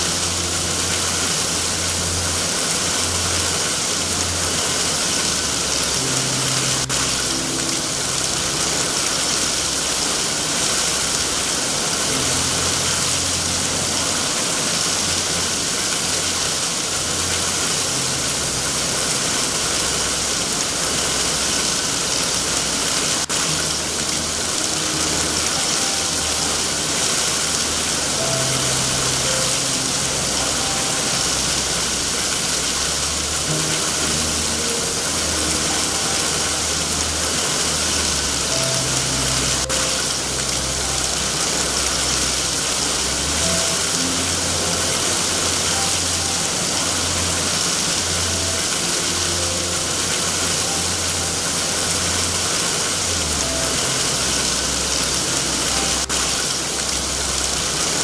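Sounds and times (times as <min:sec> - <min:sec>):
heavy rain: 0:00.0 - 0:58.0
soft background music: 0:00.0 - 0:58.0.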